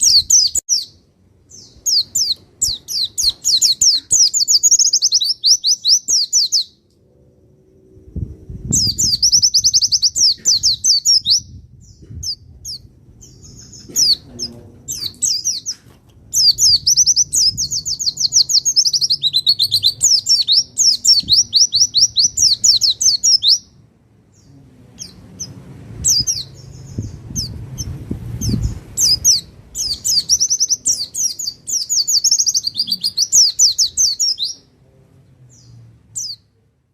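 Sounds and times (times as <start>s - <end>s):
bird single chirps: 0.0s - 6.9s, 8.6s - 23.7s, 24.4s - 34.7s
bird twittering trills: 0.0s - 34.7s, 35.5s - 36.5s.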